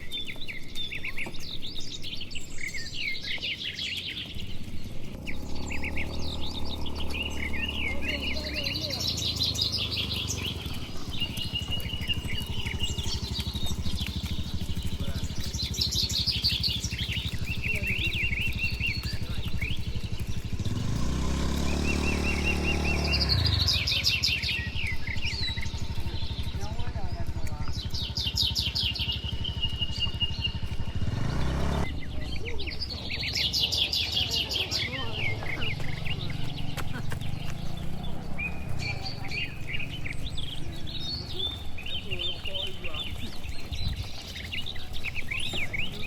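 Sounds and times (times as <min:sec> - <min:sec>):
small birds chirping and trilling: 0:00.0 - 0:46.0
engine idling: 0:04.3 - 0:46.0.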